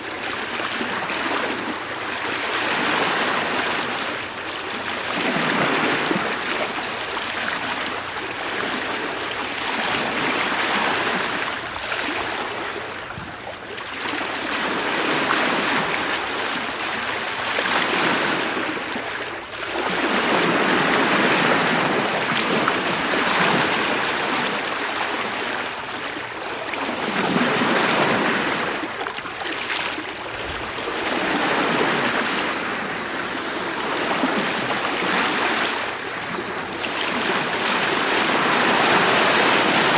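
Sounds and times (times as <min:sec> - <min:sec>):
water washing along bow: 0:00.0 - 0:39.9.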